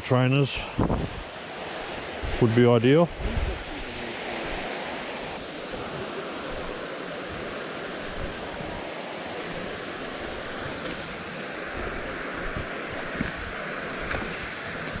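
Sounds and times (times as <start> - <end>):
waterfall rushing: 0.4 - 15.0.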